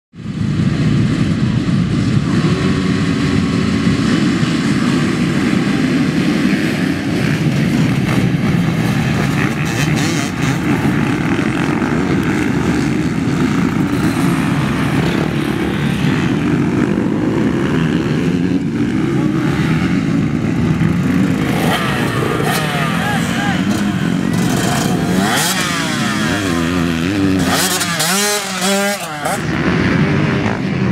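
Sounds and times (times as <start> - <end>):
motorcycle engines revving: 0.2 - 30.9.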